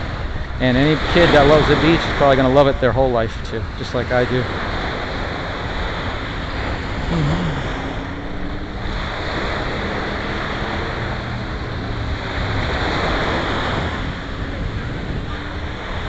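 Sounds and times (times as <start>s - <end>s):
ocean surf washing onto beach: 0.0s - 16.0s
wind blowing across microphone: 0.0s - 16.0s.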